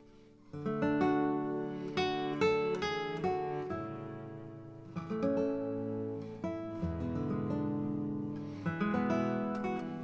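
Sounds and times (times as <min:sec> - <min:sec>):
acoustic guitar picking: 0:00.0 - 0:10.0.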